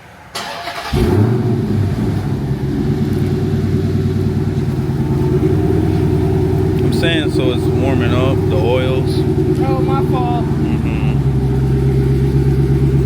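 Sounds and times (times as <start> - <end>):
car engine cranking and starting: 0.3 - 13.0
loud car engine idling: 0.9 - 13.0.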